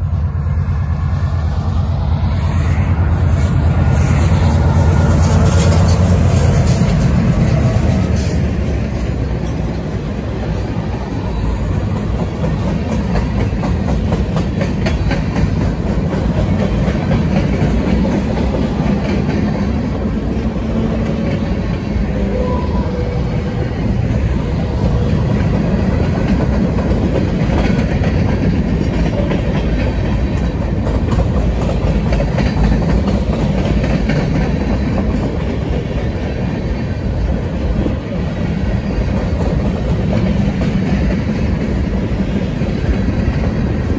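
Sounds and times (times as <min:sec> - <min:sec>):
diesel locomotives rumbling: 0:00.0 - 0:43.9
train wheels clickety-clack: 0:00.0 - 0:43.9.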